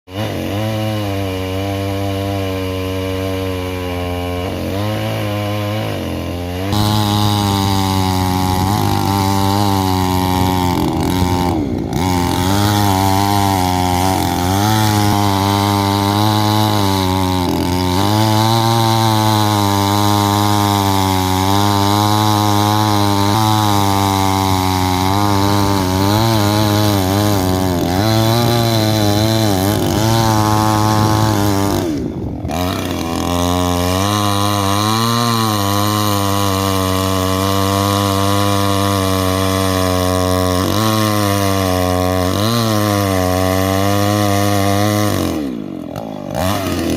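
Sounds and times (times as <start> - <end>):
chainsaw cutting wood: 0.1 - 46.9.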